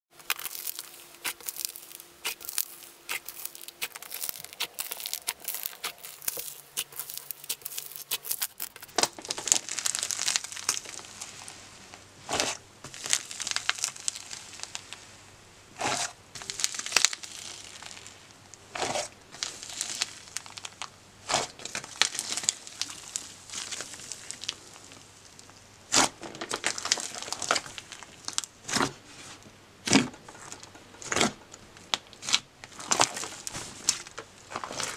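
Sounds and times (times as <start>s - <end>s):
foam bead slime crackling: 0.2s - 15.1s, 15.8s - 28.9s, 29.9s - 34.9s.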